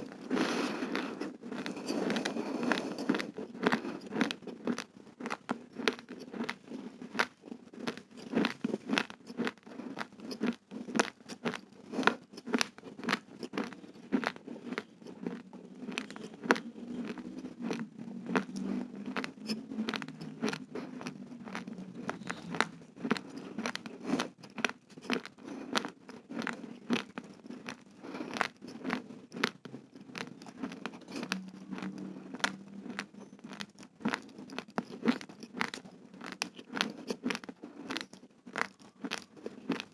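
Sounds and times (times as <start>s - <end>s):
raw rice crunching when chewed: 0.0s - 39.9s.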